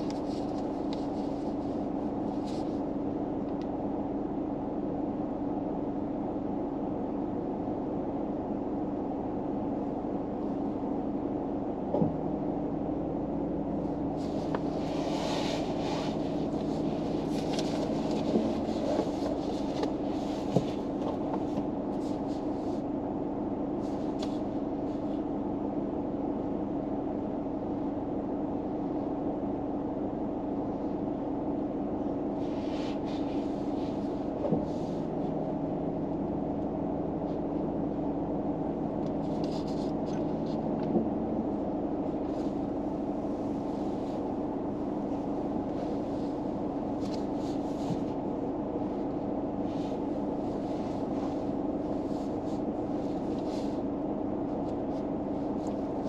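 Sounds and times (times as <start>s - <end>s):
car engine hum inside car: 0.0s - 56.0s.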